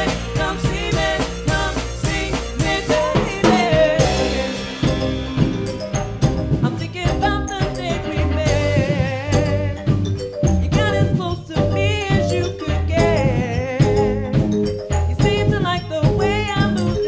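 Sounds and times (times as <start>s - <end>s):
drum kit beat with snare: 0.0s - 17.0s
wavering melody like singing: 0.0s - 17.0s.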